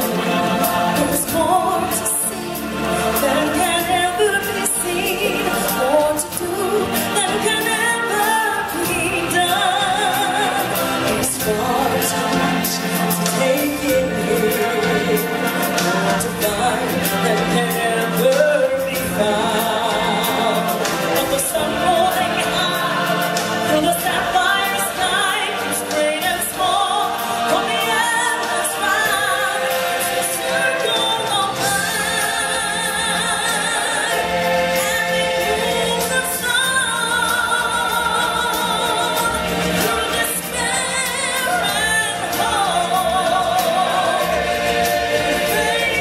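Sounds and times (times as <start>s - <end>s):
group of voices singing: 0.0s - 46.0s
stage-show music accompaniment: 0.0s - 46.0s.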